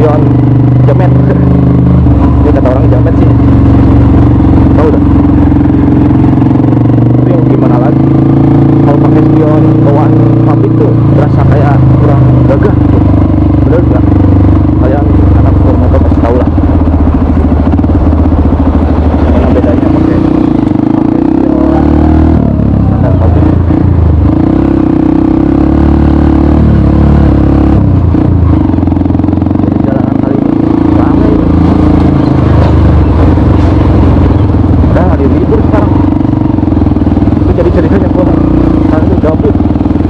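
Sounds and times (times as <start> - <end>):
motorcycle engine riding: 0.0 - 40.0.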